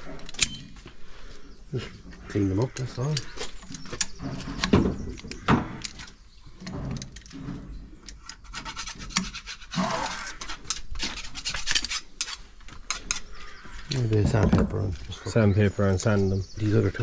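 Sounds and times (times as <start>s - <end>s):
hand scraping pump vanes: 0.0s - 17.0s.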